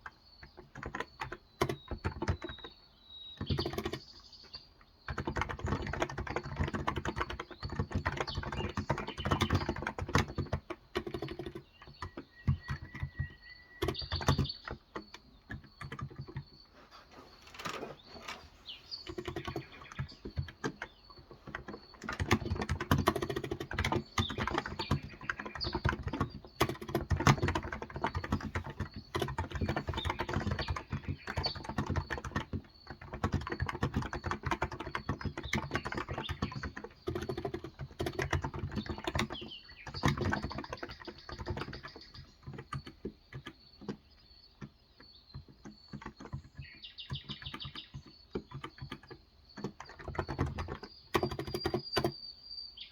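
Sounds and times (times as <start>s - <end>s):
typing on a keyboard: 0.0s - 16.7s, 17.4s - 52.2s
faint birds chirping: 0.0s - 52.9s.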